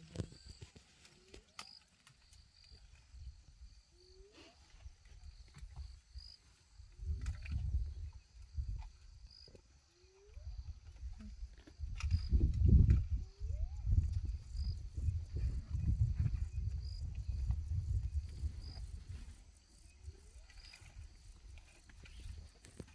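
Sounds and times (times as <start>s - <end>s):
crickets chirping: 0.0s - 22.9s.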